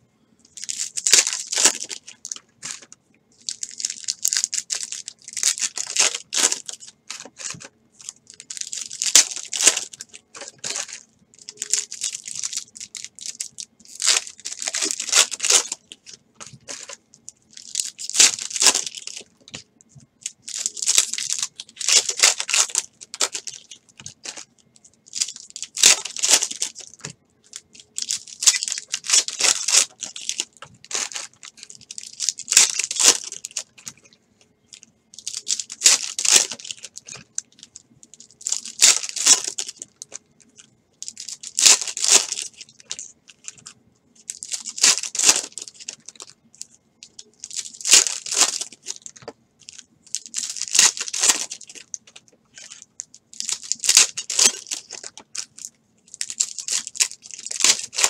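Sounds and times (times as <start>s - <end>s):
foil packs tearing and crinkling: 0.6s - 2.9s, 3.5s - 19.6s, 20.2s - 24.5s, 25.1s - 34.0s, 35.2s - 40.1s, 41.0s - 43.7s, 44.3s - 46.3s, 47.1s - 58.0s.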